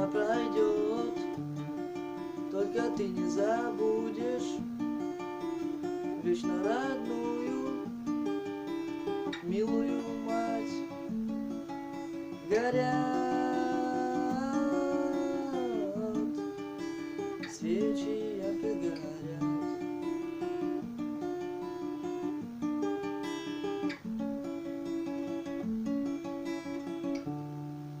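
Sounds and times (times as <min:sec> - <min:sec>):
picked acoustic guitar: 0:00.0 - 0:28.0.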